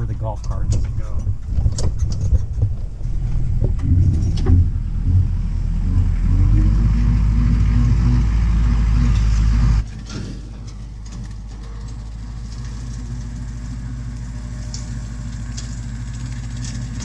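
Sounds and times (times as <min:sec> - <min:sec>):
knocks and rattles: 0:00.0 - 0:14.0
vehicle engine running: 0:00.0 - 0:17.0.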